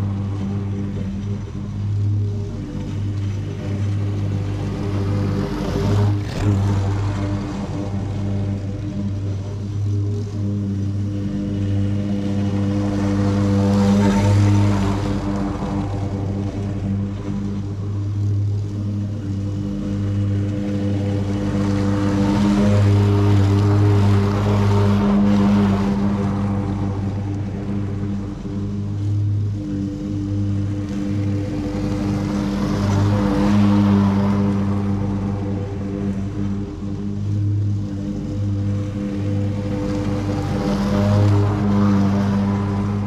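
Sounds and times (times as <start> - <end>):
lawn mower engine running: 0.0 - 43.0
mower cutting grass: 0.0 - 43.0.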